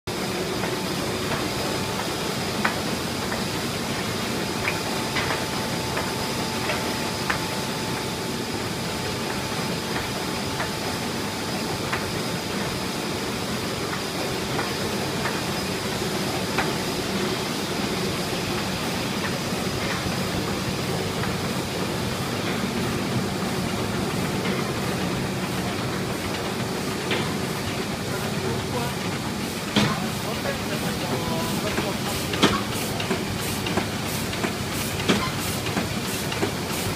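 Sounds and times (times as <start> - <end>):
printing press running: 0.1 - 36.9.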